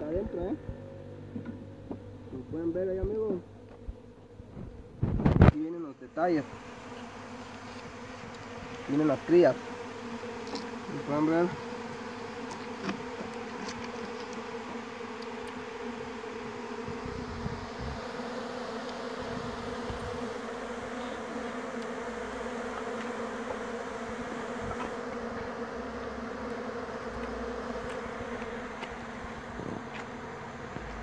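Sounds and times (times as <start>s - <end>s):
honey bees buzzing: 0.0s - 31.0s.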